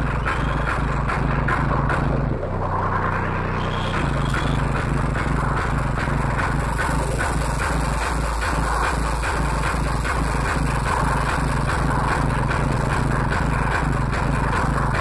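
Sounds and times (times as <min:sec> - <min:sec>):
electronic dance music: 0:00.0 - 0:15.0.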